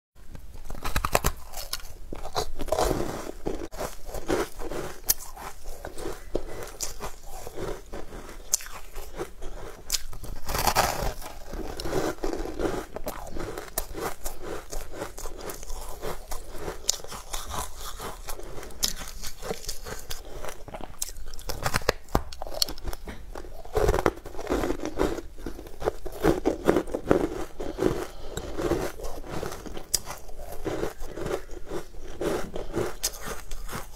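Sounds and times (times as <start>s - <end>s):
crunching and chewing ice bar: 0.5s - 33.9s.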